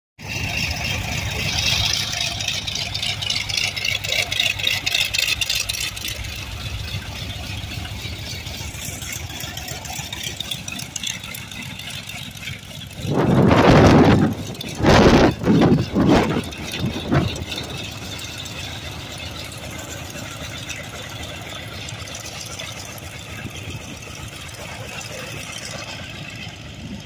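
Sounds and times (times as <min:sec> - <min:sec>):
radial aircraft engine rumbling: 0:00.2 - 0:27.0.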